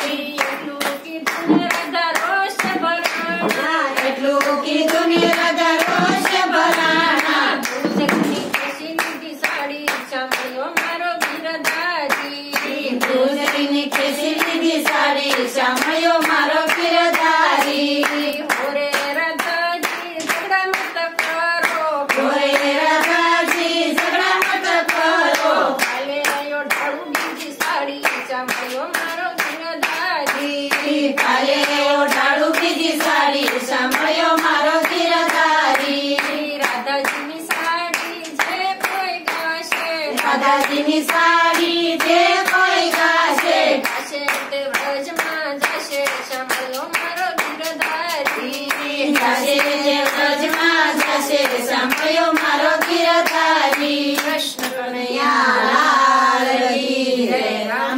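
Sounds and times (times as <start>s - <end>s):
hands clapping in rhythm: 0.0s - 57.9s
women singing devotional song: 0.0s - 57.9s.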